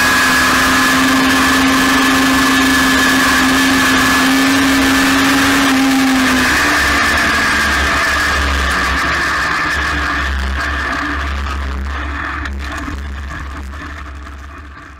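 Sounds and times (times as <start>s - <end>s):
race car engine revving high: 0.0s - 14.2s.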